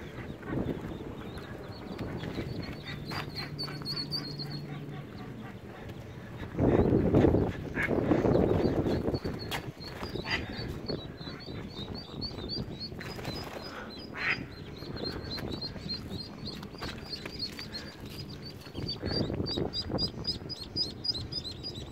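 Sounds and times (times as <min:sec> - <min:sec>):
ducklings peeping: 0:00.0 - 0:21.9.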